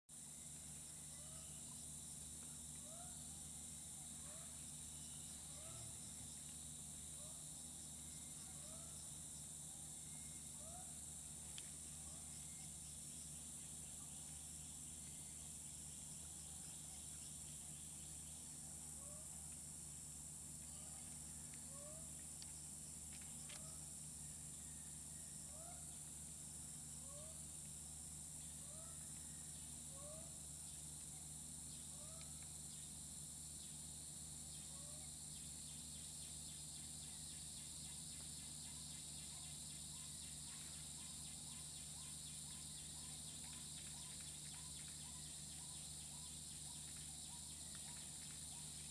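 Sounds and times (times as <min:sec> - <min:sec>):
faint low hum: 0:00.1 - 0:48.9
high-pitched insect drone: 0:00.2 - 0:48.9.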